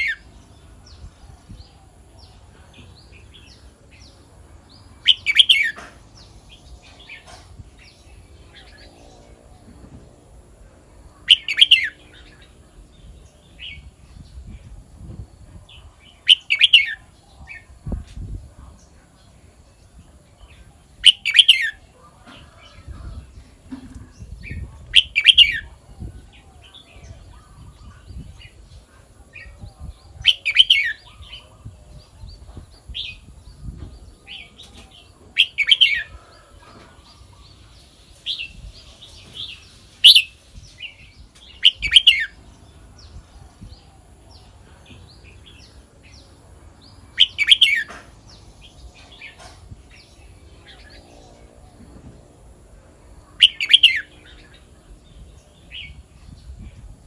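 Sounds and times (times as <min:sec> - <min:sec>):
bird singing loud phrases: 0:00.0 - 0:57.0.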